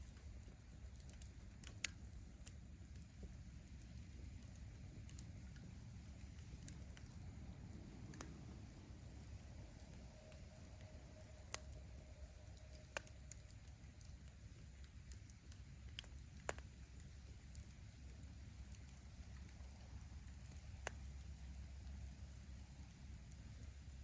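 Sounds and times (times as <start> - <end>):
faint rumble of flames: 0.0 - 24.0.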